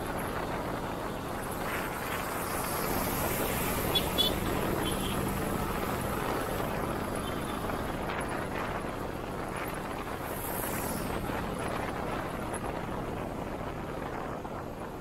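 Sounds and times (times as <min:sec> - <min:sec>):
wind and road rush: 0:00.0 - 0:15.0.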